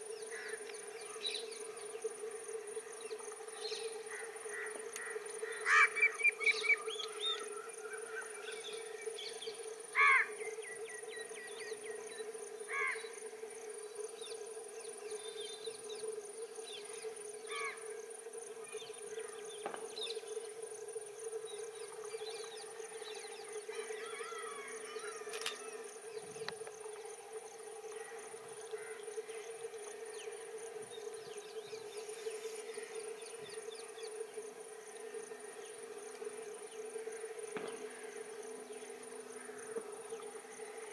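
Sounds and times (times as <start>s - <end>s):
insects trilling: 0.0s - 40.9s
steady hum: 0.0s - 40.9s.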